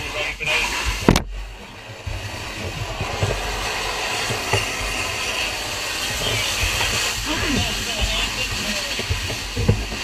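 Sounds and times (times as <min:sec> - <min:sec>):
fire hose water hissing: 0:00.0 - 0:10.0.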